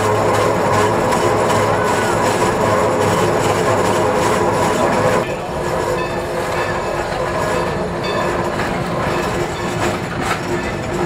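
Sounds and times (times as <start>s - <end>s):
train rumble and clatter: 0.0s - 11.0s.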